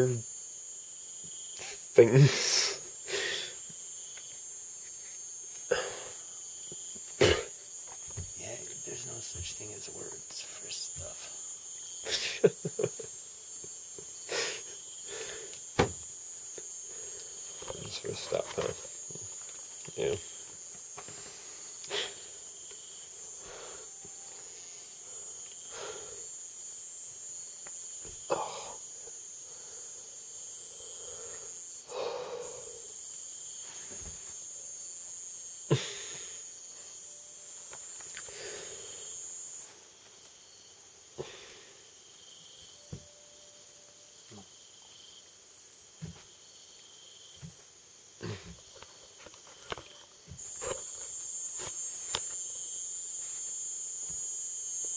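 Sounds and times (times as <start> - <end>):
insects trilling: 0.0 - 54.9.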